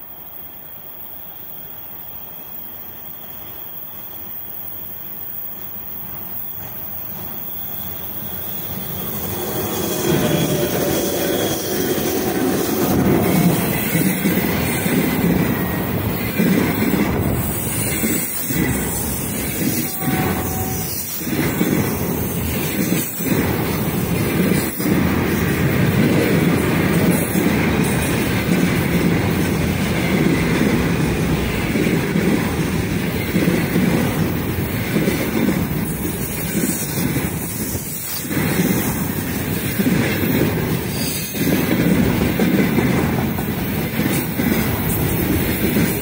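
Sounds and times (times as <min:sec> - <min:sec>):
electric locomotive approaching: 0:00.0 - 0:46.0
freight wagons rumbling past: 0:08.6 - 0:46.0.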